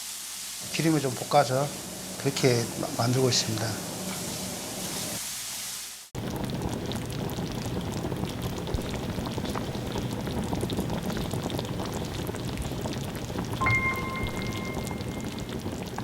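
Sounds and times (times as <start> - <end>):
oil sizzling in a wok: 0.0 - 16.0.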